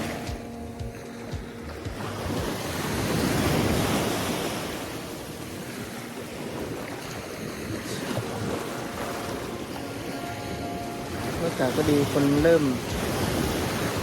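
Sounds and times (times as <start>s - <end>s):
waves washing on beach: 0.0s - 14.0s
wind buffeting microphone: 0.0s - 14.0s.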